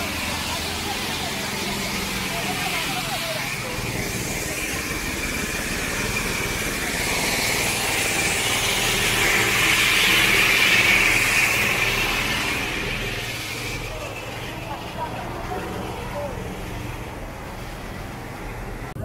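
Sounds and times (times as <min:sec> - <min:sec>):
grinding mill engine running: 0:00.0 - 0:19.0.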